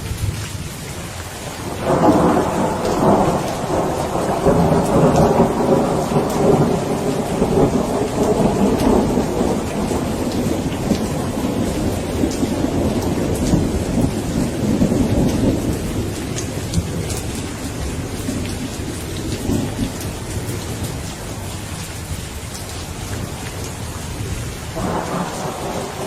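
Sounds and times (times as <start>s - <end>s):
steady rain: 0.0s - 26.0s
thunder rumbling: 1.6s - 26.0s.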